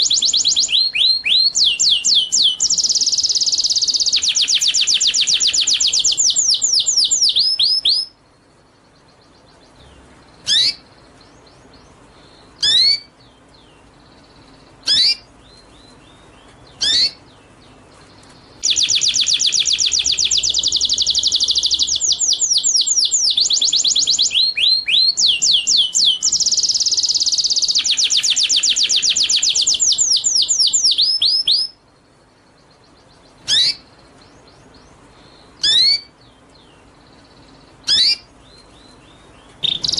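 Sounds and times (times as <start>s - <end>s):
sharp bird calls: 0.0s - 39.9s
songbird singing: 0.0s - 39.9s.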